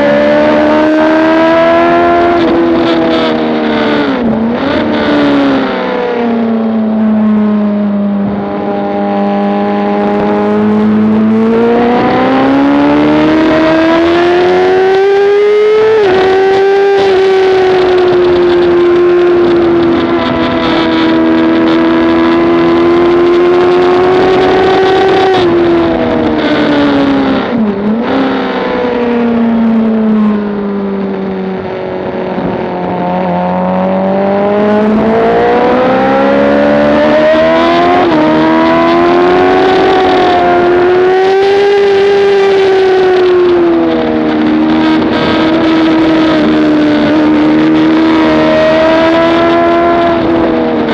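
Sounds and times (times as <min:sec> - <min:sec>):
motorcycle engine at speed: 0:00.0 - 0:50.9.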